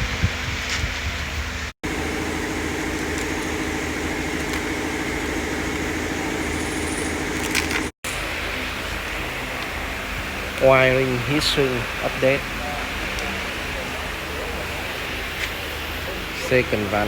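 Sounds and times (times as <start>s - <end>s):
pulsing mechanical hum: 1.4s - 17.0s.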